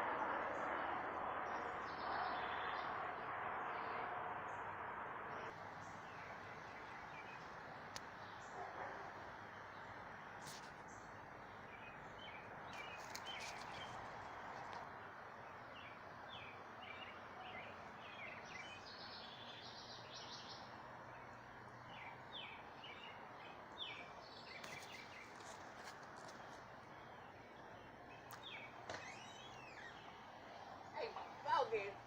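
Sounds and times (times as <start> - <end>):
small birds chirping: 5.3 - 32.0.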